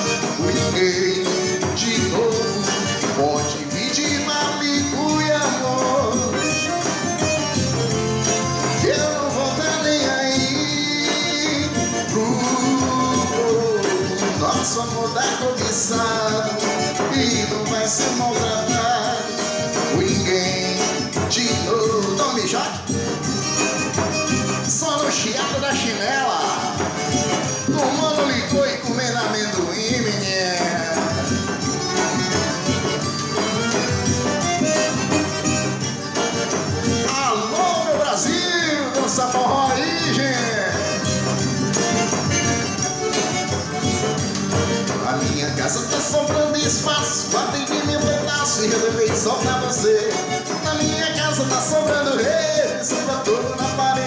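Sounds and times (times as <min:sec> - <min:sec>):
band playing with steady beat: 0:00.0 - 0:54.0.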